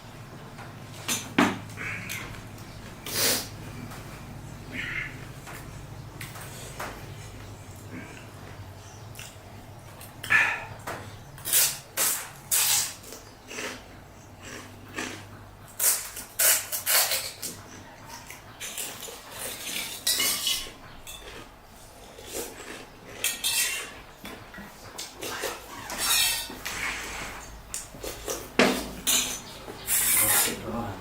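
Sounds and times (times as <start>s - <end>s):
crunchy food eating: 1.7s - 10.8s, 11.4s - 30.9s.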